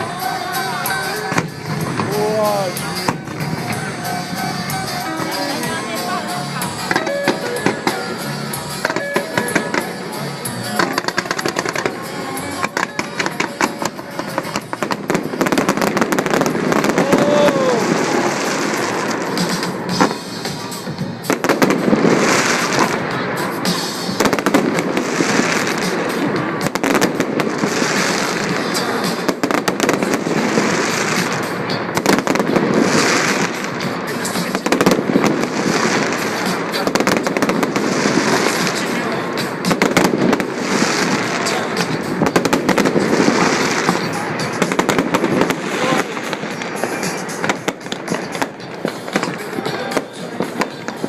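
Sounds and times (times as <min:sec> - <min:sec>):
fireworks bangs: 0:00.0 - 0:51.0
fireworks crackling: 0:00.0 - 0:51.0
music playing: 0:00.0 - 0:51.0.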